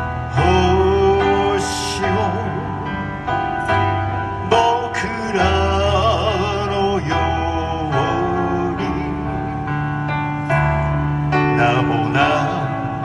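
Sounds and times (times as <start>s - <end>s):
live concert music with singing: 0.0s - 13.0s
steady bass notes: 0.0s - 13.0s.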